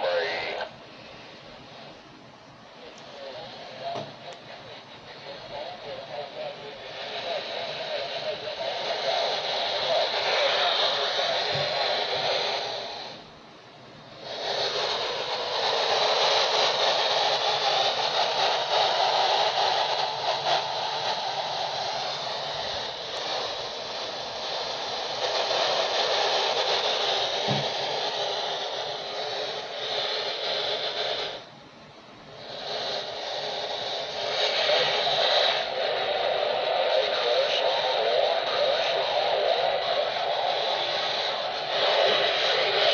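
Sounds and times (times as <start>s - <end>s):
radio static hiss: 0.0s - 42.9s.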